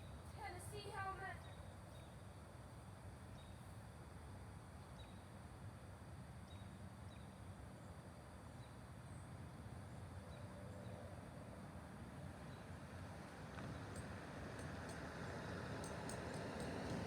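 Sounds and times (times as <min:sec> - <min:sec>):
faint outdoor hum: 0:00.0 - 0:17.0.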